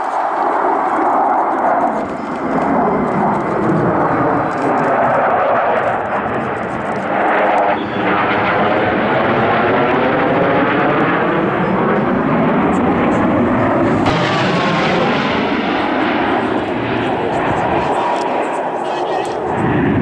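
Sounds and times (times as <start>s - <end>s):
jet aircraft roaring overhead: 0.0s - 20.0s.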